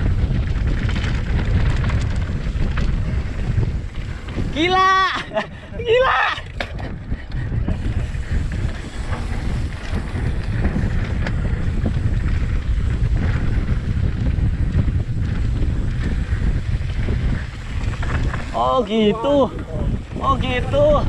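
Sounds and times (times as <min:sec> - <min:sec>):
bike clicks and rattles: 0:00.0 - 0:21.0
wind buffeting microphone: 0:00.0 - 0:21.0.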